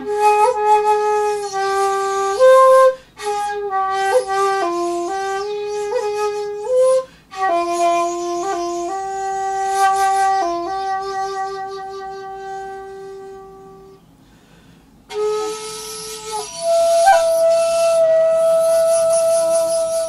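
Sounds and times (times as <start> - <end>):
bamboo flute playing: 0.0 - 14.0, 15.1 - 20.0.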